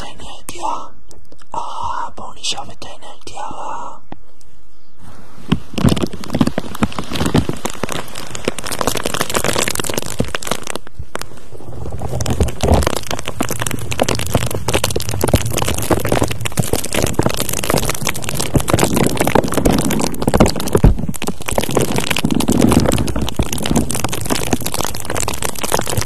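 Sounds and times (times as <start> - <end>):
crackling and scratching on microphone: 0.0 - 26.0.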